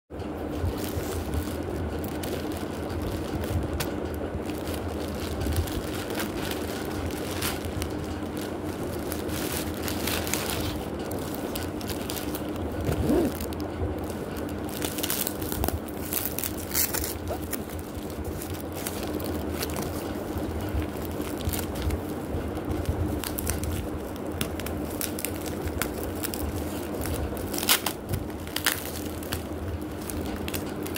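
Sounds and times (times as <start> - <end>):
steady low hum: 0.1 - 30.9
plastic bag rustling and crinkling: 0.3 - 30.9
hands handling cardboard and bubble wrap: 0.5 - 30.9.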